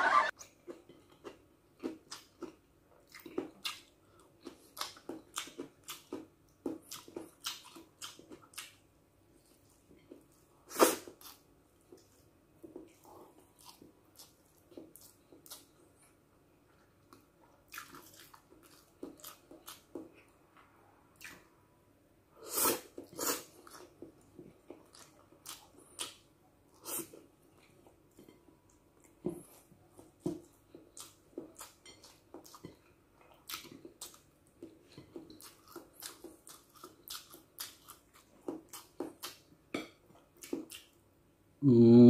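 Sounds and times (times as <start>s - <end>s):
person chewing with wet smacks: 0.4s - 8.8s, 9.4s - 21.5s, 22.7s - 41.0s.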